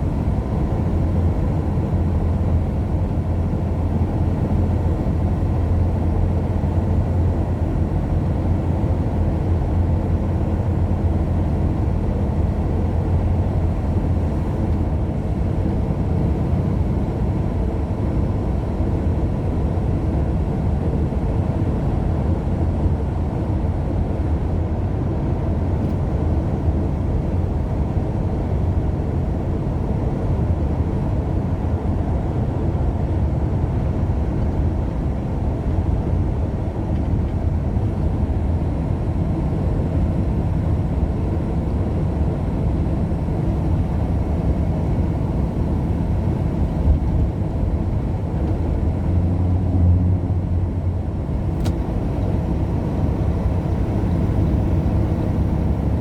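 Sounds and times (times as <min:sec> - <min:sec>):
car driving on road: 0:00.0 - 0:23.4, 0:25.1 - 0:56.0.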